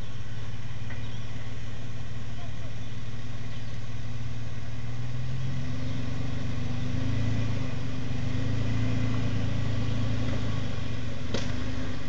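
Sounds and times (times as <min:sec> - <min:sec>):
truck engine at low revs: 0:00.0 - 0:12.0.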